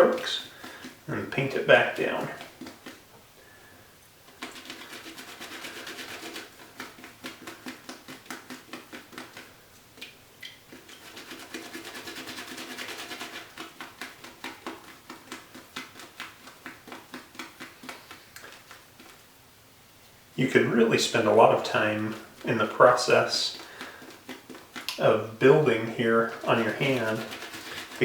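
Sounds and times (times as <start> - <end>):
shaving brush swishing lather: 0.0 - 3.1, 4.3 - 9.9, 10.7 - 19.2, 20.4 - 28.0.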